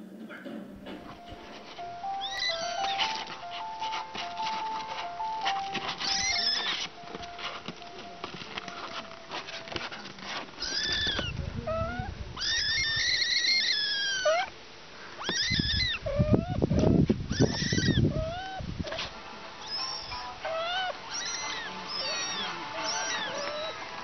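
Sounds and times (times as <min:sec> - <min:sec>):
kittens mewing: 0:01.1 - 0:24.0.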